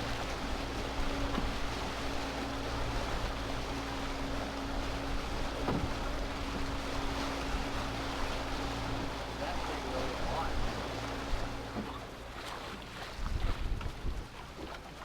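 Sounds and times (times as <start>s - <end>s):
boat engine humming: 0.0s - 15.0s
water noise: 0.0s - 15.0s
wind: 0.0s - 15.0s.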